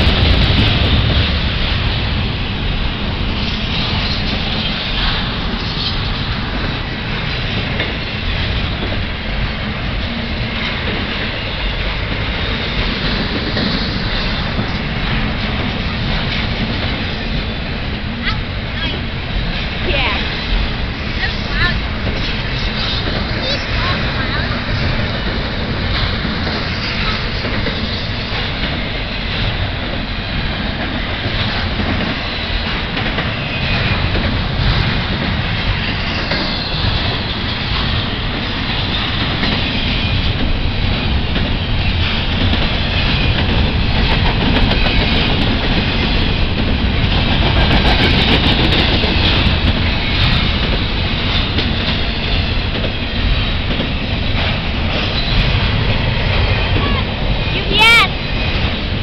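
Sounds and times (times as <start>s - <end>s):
steel wheels on rails: 0.0s - 59.0s.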